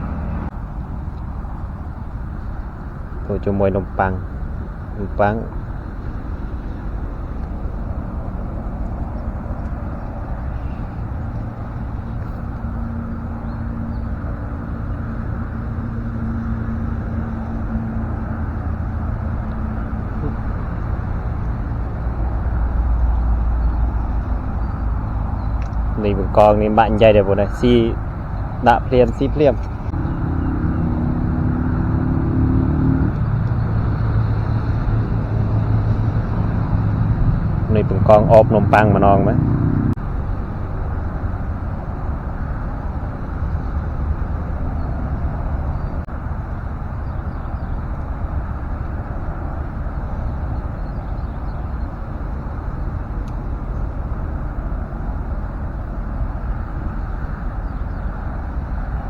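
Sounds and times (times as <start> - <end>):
low rumble: 0.0 - 48.1
vehicle engine humming: 0.0 - 59.0.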